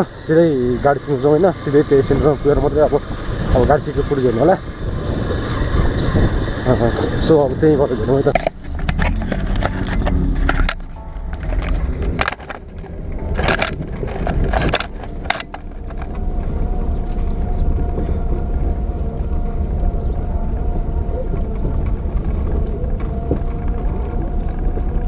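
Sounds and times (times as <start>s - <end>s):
vehicle engine low rumble: 0.0s - 25.0s.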